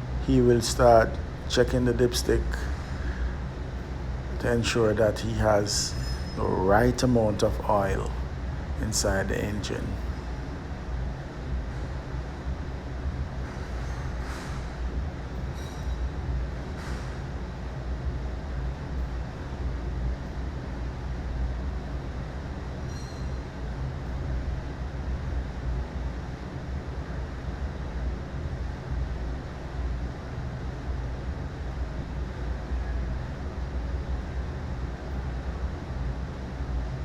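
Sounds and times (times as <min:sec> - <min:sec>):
low background rumble: 0:00.0 - 0:37.0.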